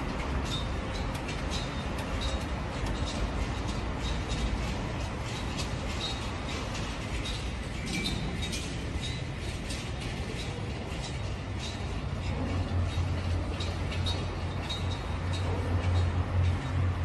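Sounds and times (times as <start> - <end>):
creaks and rattles: 0.0 - 17.0.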